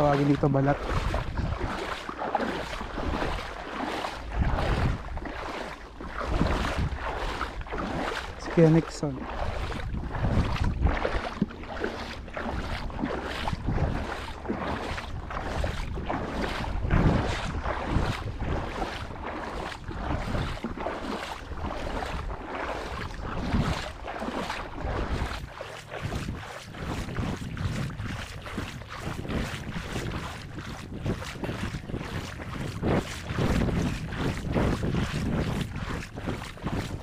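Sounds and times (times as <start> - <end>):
person wading through seawater: 0.0 - 37.0
wind on microphone: 0.0 - 37.0.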